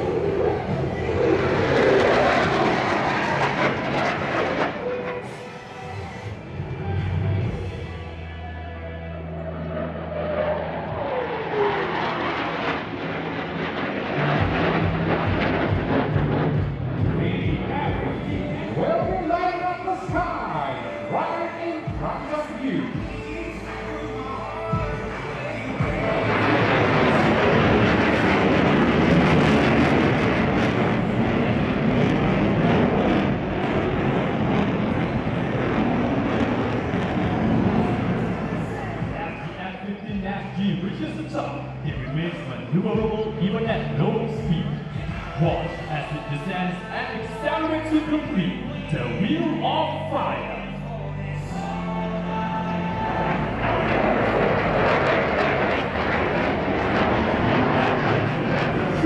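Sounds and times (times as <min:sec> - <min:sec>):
jet roaring past: 0:00.0 - 0:07.8, 0:09.2 - 0:59.0.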